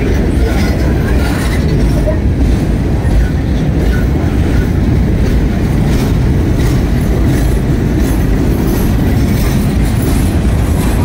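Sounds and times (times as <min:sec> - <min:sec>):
freight train rolling past: 0:00.0 - 0:11.0
train wheels clicking: 0:00.0 - 0:11.0.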